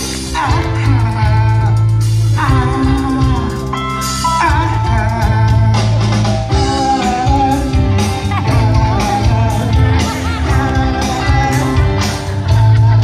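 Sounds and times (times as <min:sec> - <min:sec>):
bass line: 0:00.0 - 0:13.0
drums: 0:00.0 - 0:13.0
keyboard chords: 0:00.0 - 0:13.0
person singing: 0:00.0 - 0:13.0.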